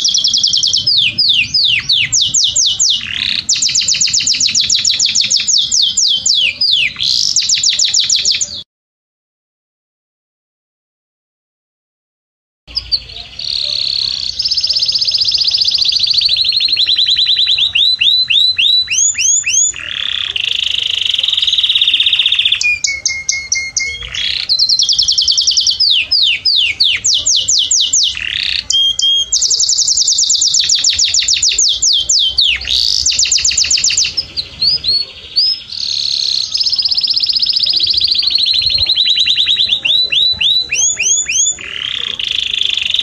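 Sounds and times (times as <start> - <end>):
canary singing: 0.0 - 8.6, 12.7 - 43.0.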